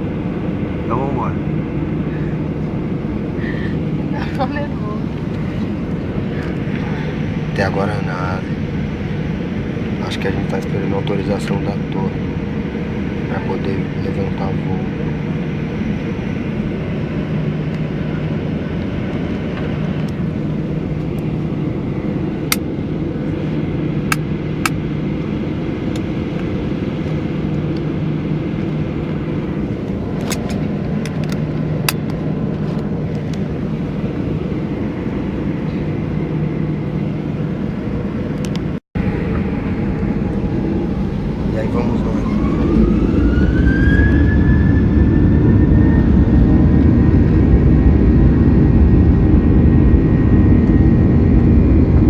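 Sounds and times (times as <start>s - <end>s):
jet engines idling: 0.0s - 52.0s.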